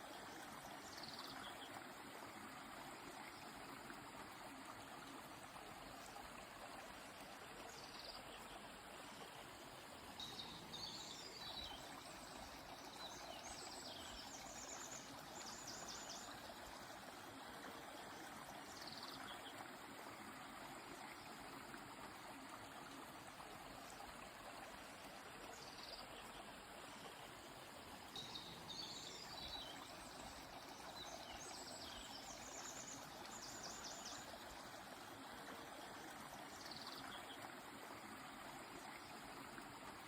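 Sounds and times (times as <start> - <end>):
river flowing: 0.0 - 40.0.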